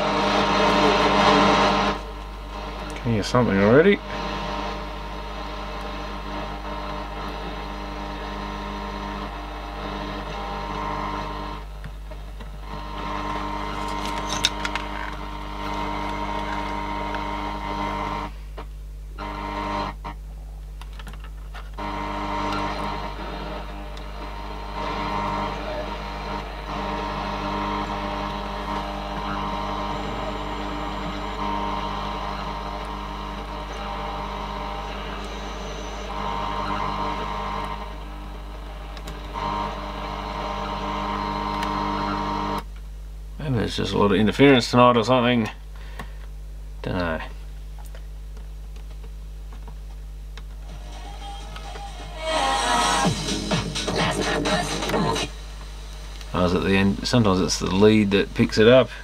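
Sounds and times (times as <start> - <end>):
hum and buzzing interference: 0.0 - 59.0.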